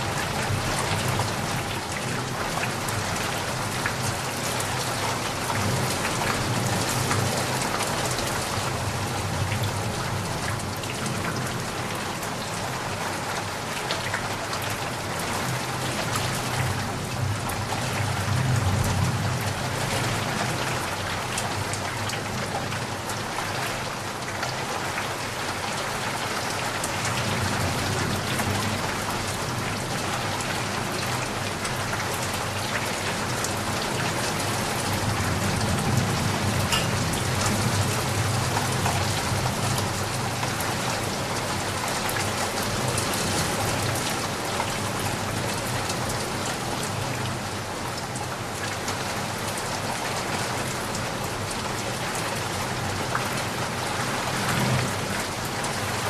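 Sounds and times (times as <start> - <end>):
raindrops ticking on a surface: 0.0 - 56.0.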